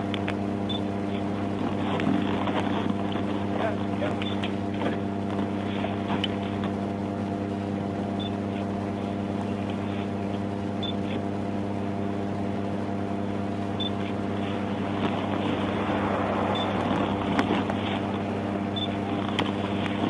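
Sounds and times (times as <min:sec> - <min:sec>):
vehicle hum: 0:00.0 - 0:20.0.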